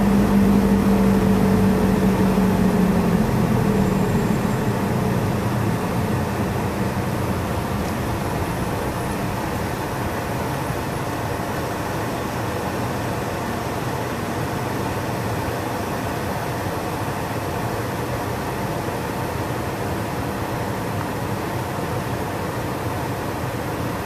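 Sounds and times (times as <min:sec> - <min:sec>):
car engine and tyre noise: 0:00.0 - 0:23.9.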